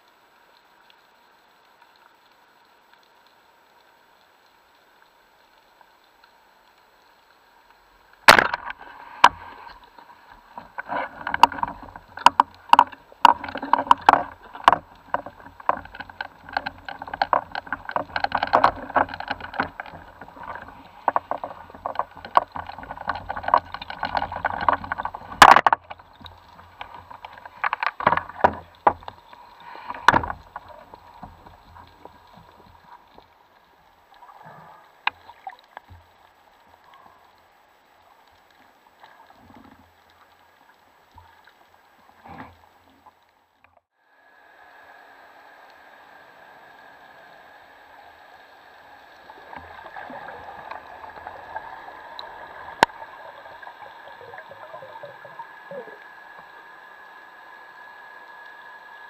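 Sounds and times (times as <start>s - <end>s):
gear clicking and rattling underwater: 0.0s - 43.9s, 46.5s - 59.0s.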